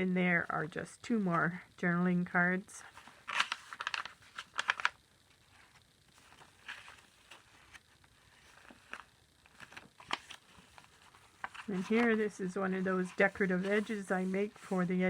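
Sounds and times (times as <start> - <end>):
paper rustling: 2.8 - 15.0.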